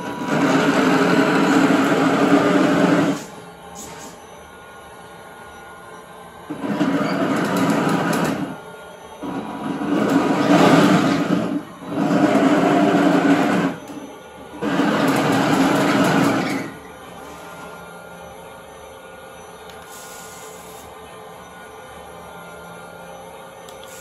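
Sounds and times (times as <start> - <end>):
toy tank motors whining: 0.0 - 4.5, 5.2 - 24.0.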